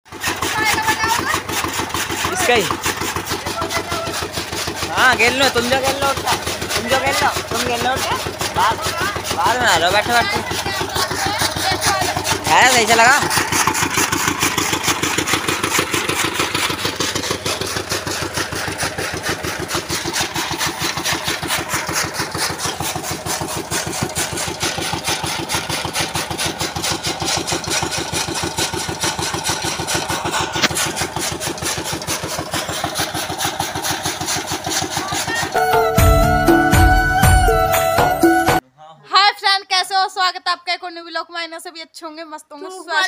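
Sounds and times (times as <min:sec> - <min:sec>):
machine drive running: 0:00.1 - 0:36.6
chaff cutter chopping stalks: 0:00.1 - 0:36.8.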